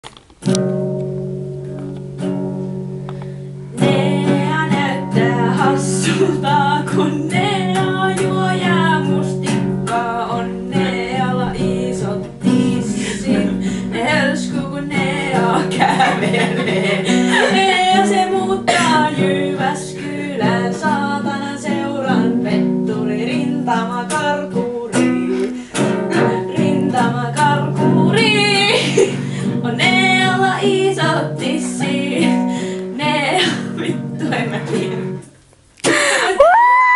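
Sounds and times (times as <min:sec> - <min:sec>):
strummed nylon-string guitar: 0:00.3 - 0:35.4
woman singing: 0:03.7 - 0:35.2.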